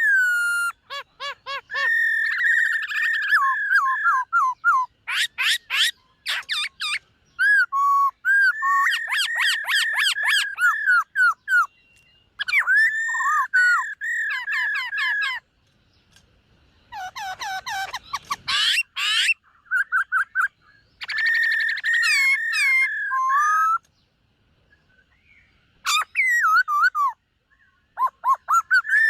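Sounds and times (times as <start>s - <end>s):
bird singing whistled phrases: 0.0s - 15.4s, 17.0s - 23.9s, 24.7s - 29.0s.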